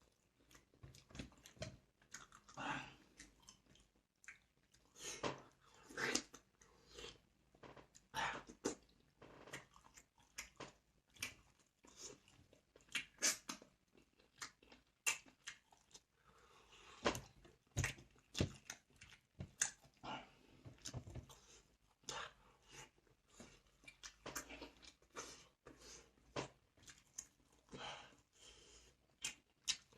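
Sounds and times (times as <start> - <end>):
chewing crunchy food: 0.0 - 27.8, 29.1 - 29.9.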